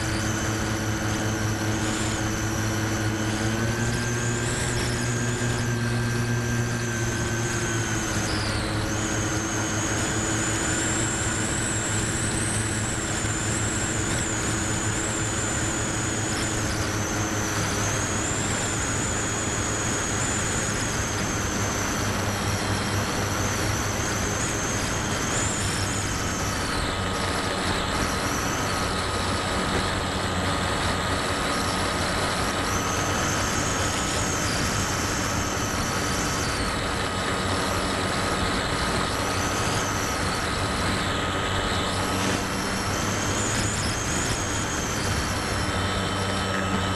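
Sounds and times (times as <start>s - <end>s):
model plane motor whine: 0.0s - 46.9s.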